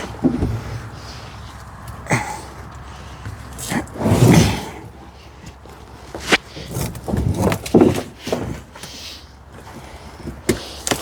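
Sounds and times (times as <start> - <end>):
clunks and scrapes of handling: 0.0 - 11.0.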